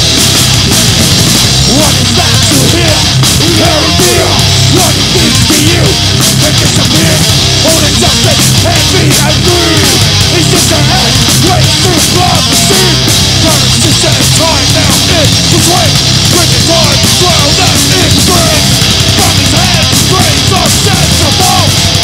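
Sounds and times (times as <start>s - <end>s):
bass guitar: 0.0s - 22.0s
distorted electric guitar: 0.0s - 22.0s
drums: 0.0s - 22.0s.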